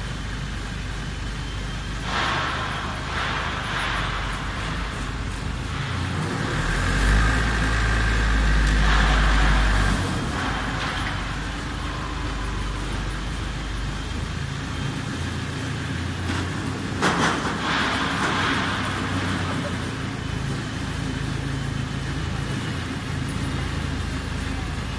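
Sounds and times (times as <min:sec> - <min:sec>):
pile driver engine running: 0:00.0 - 0:24.9.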